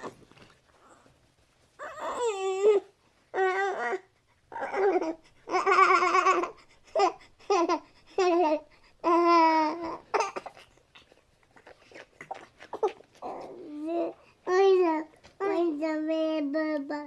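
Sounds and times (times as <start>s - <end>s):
baby cooing and babbling: 1.8s - 10.7s, 11.6s - 17.0s.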